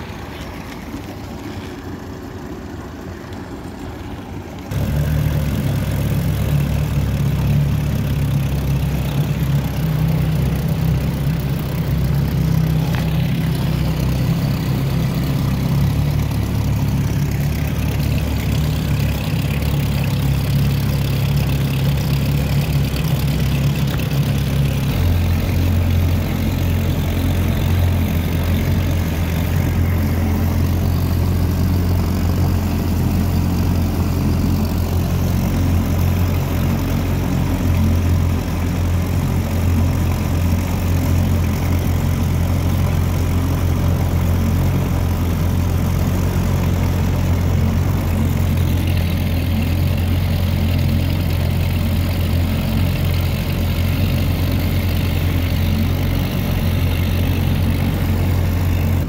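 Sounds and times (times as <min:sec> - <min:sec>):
water noise: 0:00.0 - 0:51.6
outboard motor running: 0:00.0 - 0:59.0.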